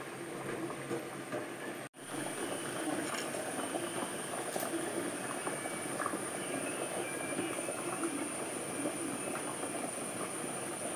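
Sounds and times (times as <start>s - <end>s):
curry bubbling in a pot: 0.1s - 10.9s.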